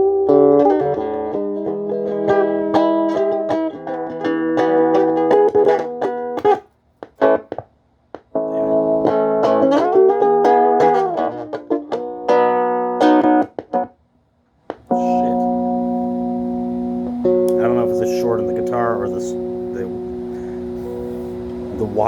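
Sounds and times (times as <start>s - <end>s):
amplified guitar chords: 0.0s - 6.6s, 7.2s - 7.6s, 8.2s - 13.9s, 14.7s - 22.0s.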